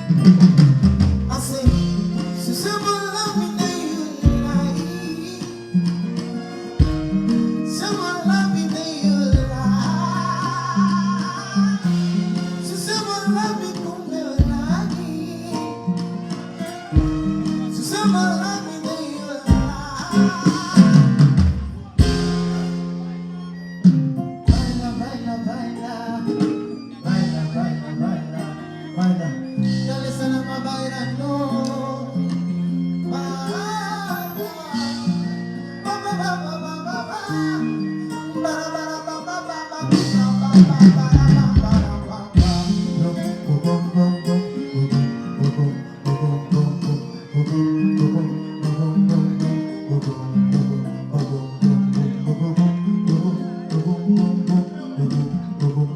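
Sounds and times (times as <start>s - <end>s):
person singing: 0.0s - 55.9s
pop song over loudspeakers: 0.0s - 55.9s.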